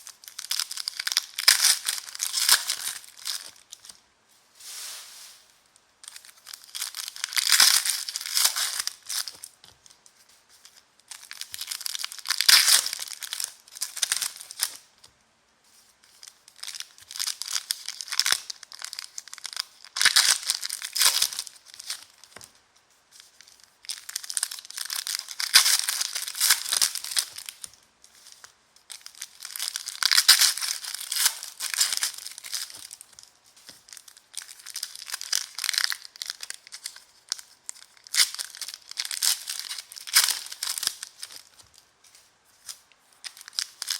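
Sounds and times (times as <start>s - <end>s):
plastic wrappers crinkling and tearing: 0.0s - 4.0s, 4.6s - 15.1s, 16.0s - 43.9s.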